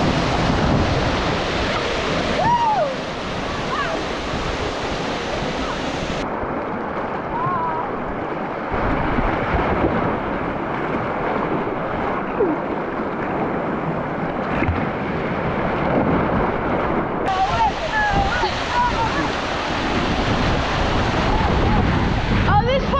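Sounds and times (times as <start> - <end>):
creek water rushing over rocks: 0.0 - 22.9.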